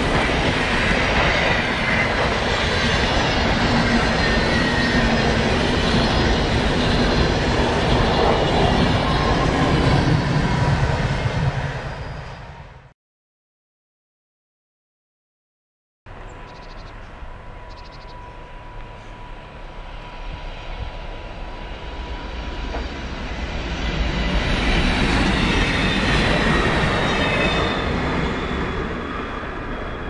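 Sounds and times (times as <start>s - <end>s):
electric railcar approaching: 0.0s - 12.9s, 16.1s - 30.0s.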